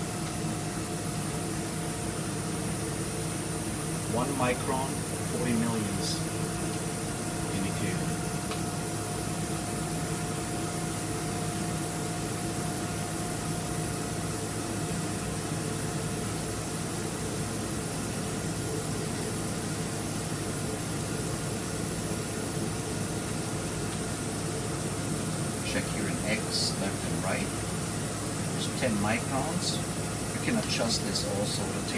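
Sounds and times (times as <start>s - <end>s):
faint steady whine: 0.0s - 31.9s
machine drives humming: 0.0s - 31.9s.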